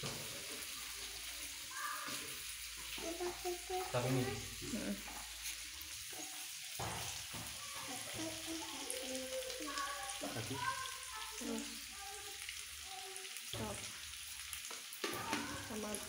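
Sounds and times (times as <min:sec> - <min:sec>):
meat sizzling in oil: 0:00.0 - 0:16.0
sauce pouring: 0:00.0 - 0:16.0.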